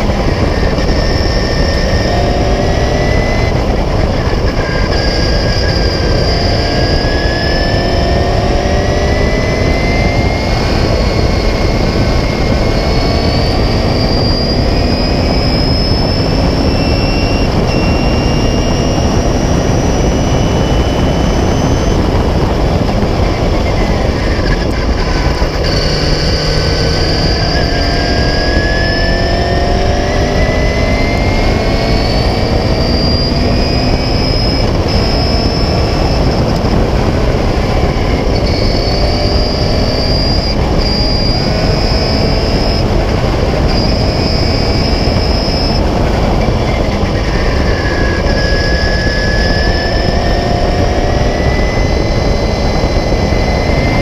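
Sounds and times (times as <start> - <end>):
racing car engine accelerating: 0.0 - 54.0
wind and road noise: 0.0 - 54.0.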